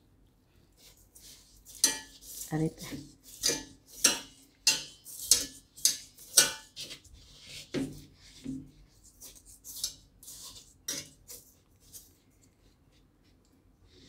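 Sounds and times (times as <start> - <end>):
salt scraping on metal pot: 0.8 - 12.2.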